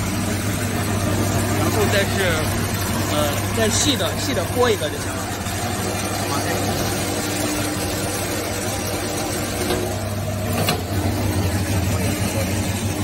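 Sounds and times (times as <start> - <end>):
wire stripping machine motor hum: 0.0 - 13.0.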